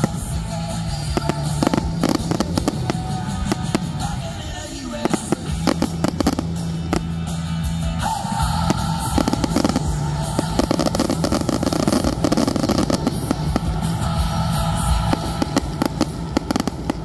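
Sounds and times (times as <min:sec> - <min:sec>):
fireworks bursting and crackling: 0:00.0 - 0:17.0
music soundtrack: 0:00.0 - 0:17.0.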